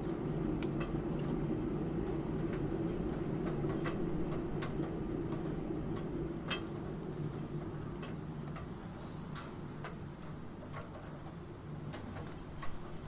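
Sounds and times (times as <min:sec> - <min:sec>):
rain: 0:00.0 - 0:13.0.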